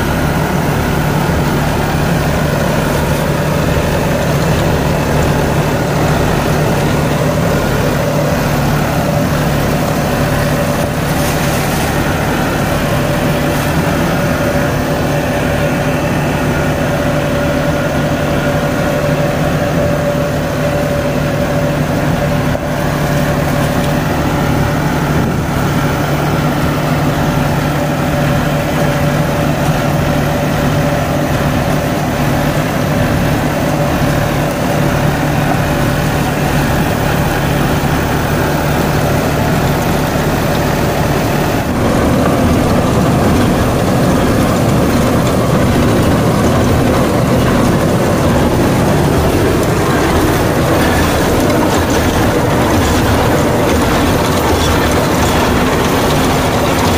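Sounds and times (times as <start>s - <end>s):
rotavator churning soil: 0.0s - 56.9s
tractor engine running: 0.0s - 56.9s.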